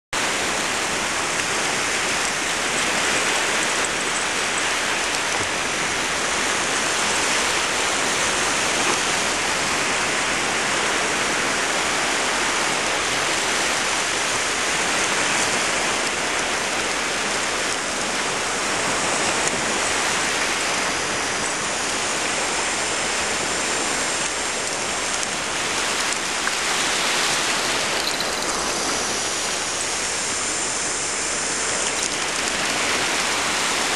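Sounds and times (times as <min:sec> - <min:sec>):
small waves washing onto shore: 0:00.2 - 0:33.9.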